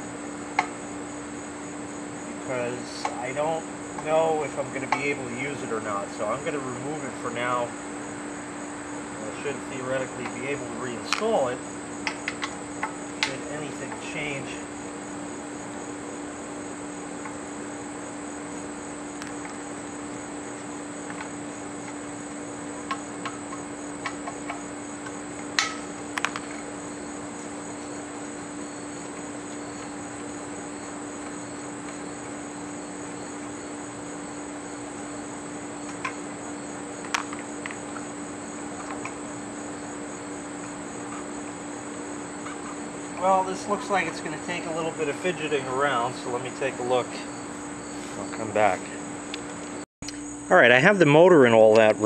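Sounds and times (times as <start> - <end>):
insects chirring: 0.0 - 52.0.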